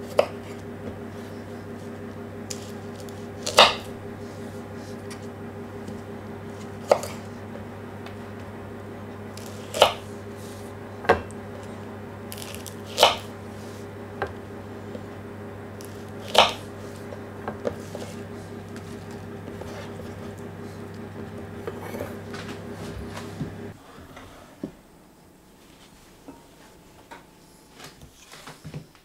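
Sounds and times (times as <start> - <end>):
steady low hum: 0.0 - 28.2.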